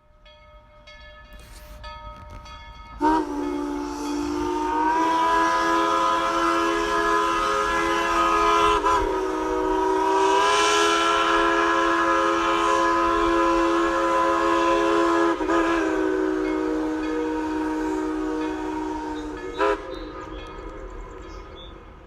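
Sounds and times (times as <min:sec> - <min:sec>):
locomotive steam whistle: 0:01.4 - 0:22.0.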